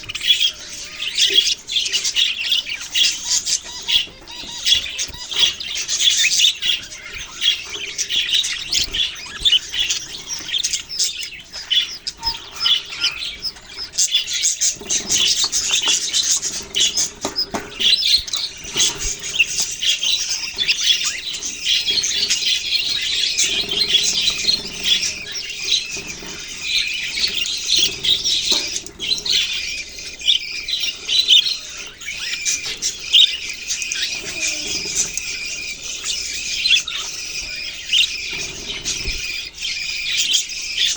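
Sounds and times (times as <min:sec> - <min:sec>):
flock of budgerigars chirping: 0:00.0 - 0:40.9.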